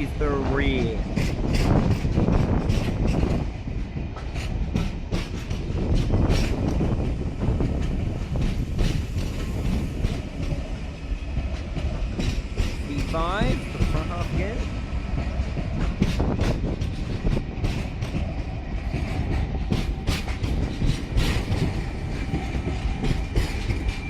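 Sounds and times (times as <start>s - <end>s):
train rumbling past: 0.0s - 24.0s
wheels clicking over rail joints: 0.0s - 24.0s.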